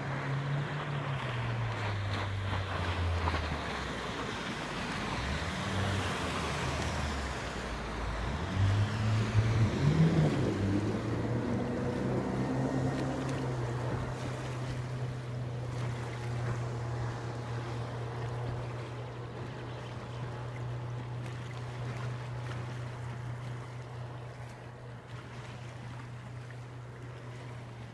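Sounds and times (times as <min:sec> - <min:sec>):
boat motor running: 0:00.0 - 0:27.9
water wash: 0:00.0 - 0:27.9
wind: 0:00.0 - 0:27.9.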